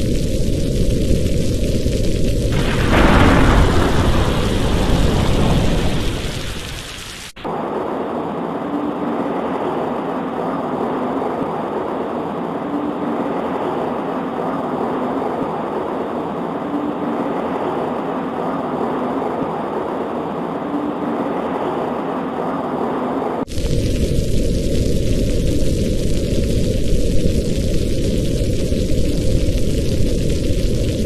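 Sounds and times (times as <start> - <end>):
rain pattering on a window: 0.0 - 22.1, 23.4 - 31.0
thunder rumbling: 0.0 - 31.0.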